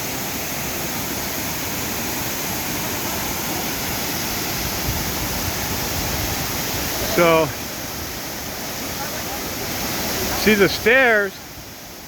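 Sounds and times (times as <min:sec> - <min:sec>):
waterfall cascading into a pool: 0:00.0 - 0:12.0.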